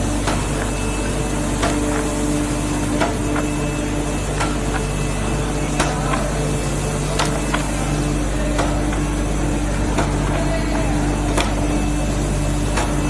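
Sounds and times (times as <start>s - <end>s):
production machinery humming: 0.0s - 13.0s.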